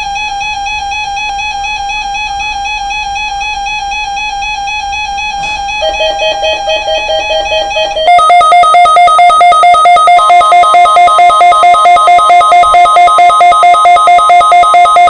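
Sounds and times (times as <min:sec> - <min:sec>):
rapid two-tone beeping alarm: 0:00.0 - 0:15.0
steady electronic tone: 0:00.0 - 0:15.0.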